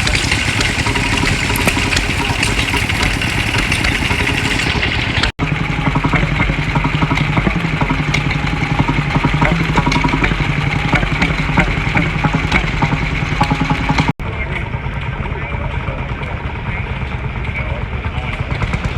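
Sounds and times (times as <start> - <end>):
engine running with ticking clatter: 0.0 - 18.9.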